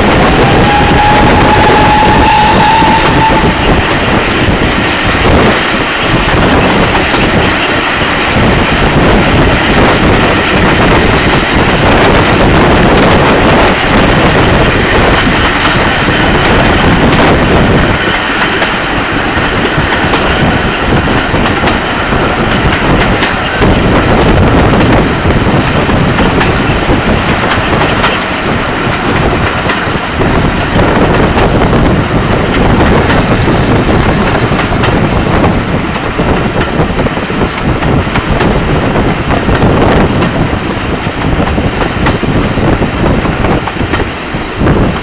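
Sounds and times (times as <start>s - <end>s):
wind and train wheel noise: 0.0s - 45.0s.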